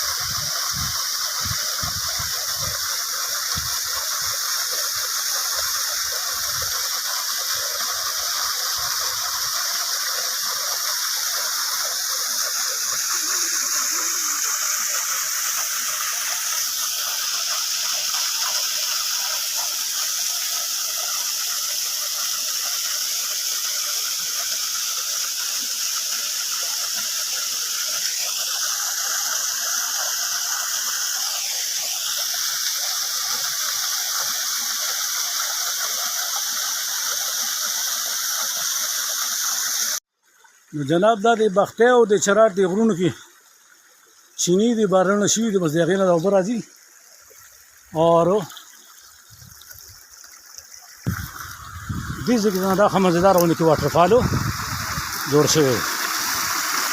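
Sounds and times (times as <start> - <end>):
waterfall rushing and splashing: 0.0 - 40.0, 51.0 - 56.9.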